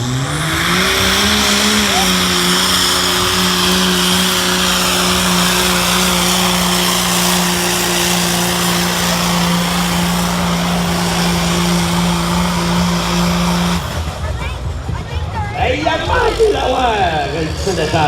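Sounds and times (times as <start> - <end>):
truck engine under heavy load: 0.0 - 18.0.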